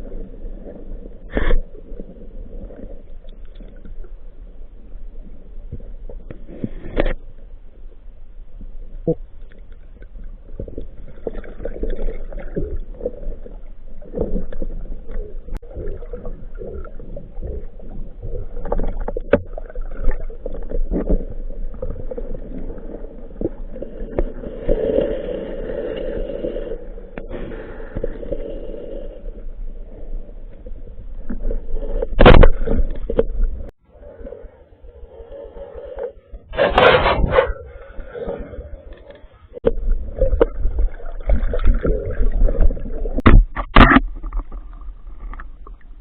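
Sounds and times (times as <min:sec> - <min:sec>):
underwater gurgling: 0:08.7 - 0:46.0.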